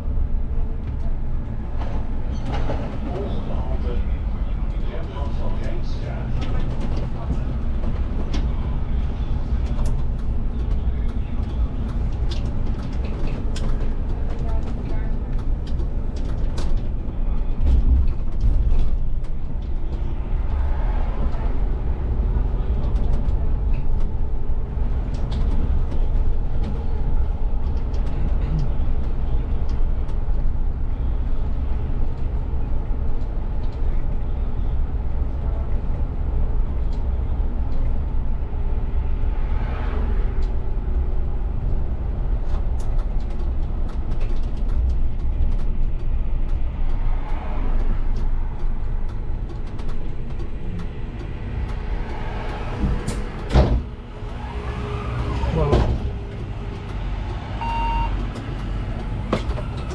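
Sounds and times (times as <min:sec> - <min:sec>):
bus drivetrain rumble: 0:00.0 - 0:59.9.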